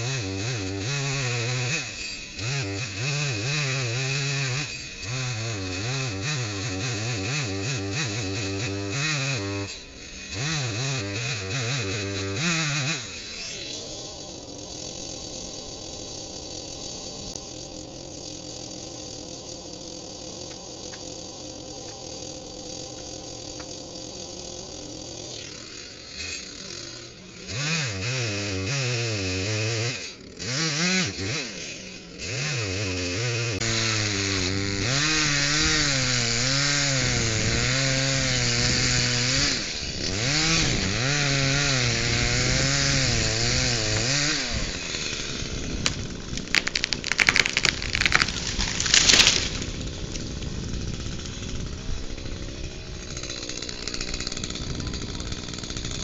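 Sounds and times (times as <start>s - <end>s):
chainsaw cutting tree trunk: 0.0s - 56.0s
chainsaw idling and revving: 0.0s - 56.0s.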